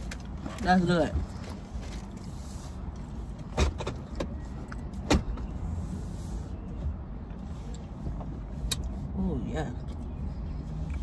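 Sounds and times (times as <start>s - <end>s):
low rumble of car cabin: 0.0s - 11.0s.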